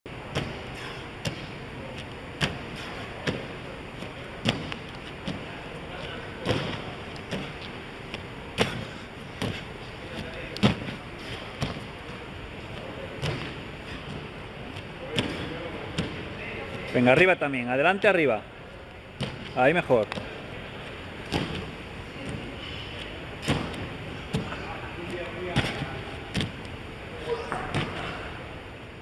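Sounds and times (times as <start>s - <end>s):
feet thudding on gym mats: 0.3s - 17.3s, 19.1s - 28.6s.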